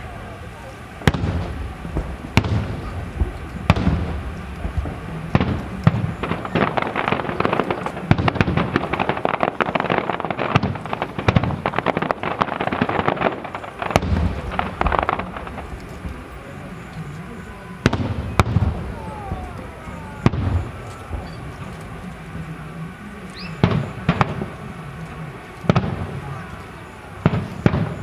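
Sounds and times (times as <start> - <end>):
firework crackling: 0.0 - 28.0
firework shells booming: 0.0 - 28.0
sharp firework bangs: 0.0 - 28.0.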